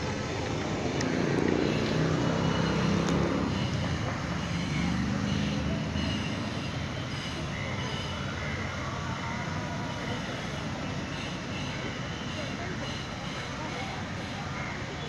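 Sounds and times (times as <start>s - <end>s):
motor traffic rumble: 0.0s - 15.0s.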